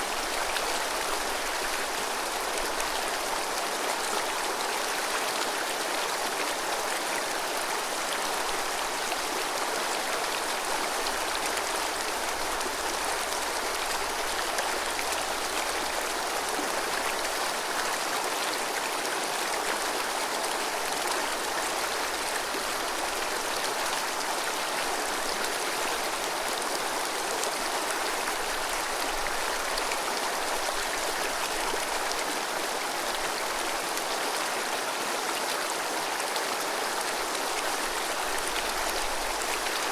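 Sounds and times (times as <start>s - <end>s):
mountain river babbling: 0.0s - 39.9s.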